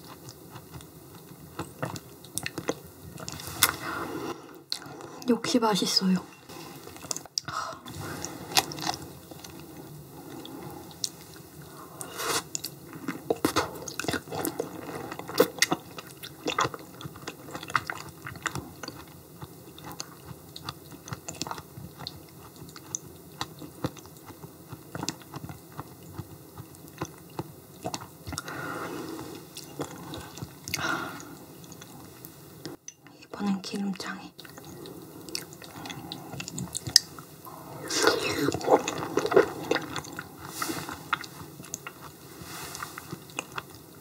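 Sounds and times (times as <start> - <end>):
wet chewing mouth sounds: 0.0 - 3.8, 6.5 - 32.8, 34.4 - 44.0.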